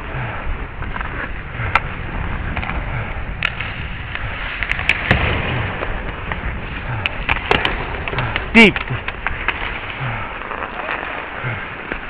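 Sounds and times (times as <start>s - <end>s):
skates scraping on ice: 0.0s - 12.0s
hockey sticks and puck clacking: 0.6s - 12.0s.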